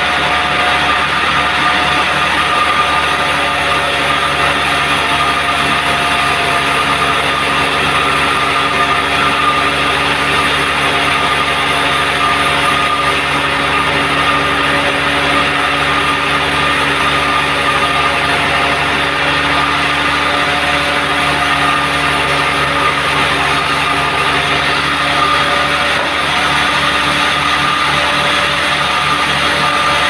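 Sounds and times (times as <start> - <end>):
high steady whine: 0.0 - 30.0
sawmill machine drone: 0.0 - 30.0.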